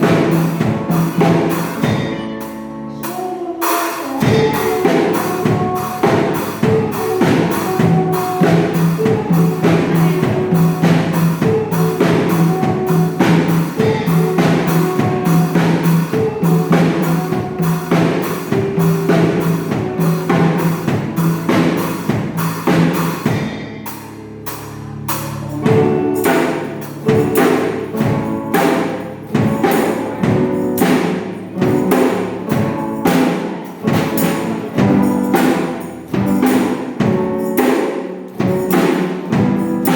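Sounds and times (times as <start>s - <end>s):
held bass and keyboard notes: 0.0s - 39.9s
steady drum beat: 0.0s - 39.9s.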